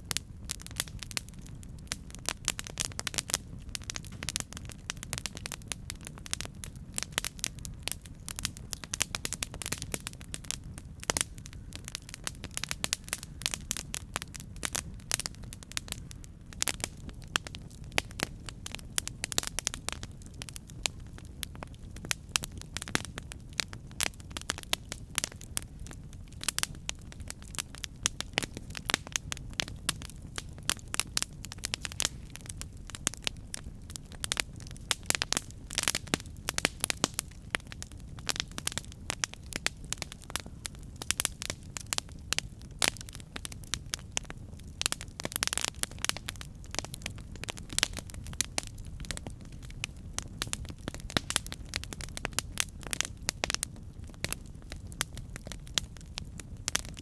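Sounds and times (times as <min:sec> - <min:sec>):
low rumble of flames: 0:00.0 - 0:57.0
wood crackling and popping: 0:00.0 - 0:57.0.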